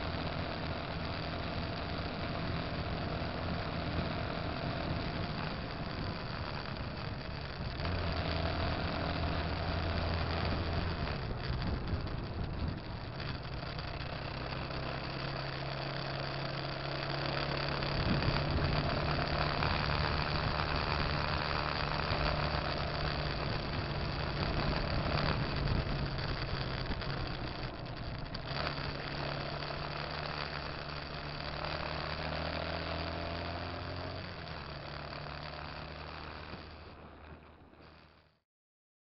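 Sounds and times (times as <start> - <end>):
wind and road rush: 0.0 - 38.3
motorcycle engine running: 0.0 - 38.4.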